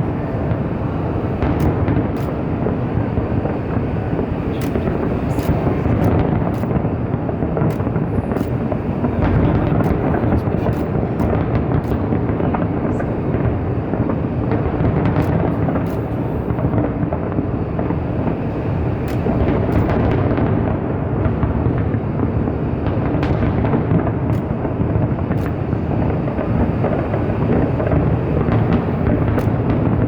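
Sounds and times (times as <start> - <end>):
fireworks booming: 0.0 - 30.0
fireworks crackling and popping: 0.0 - 30.0.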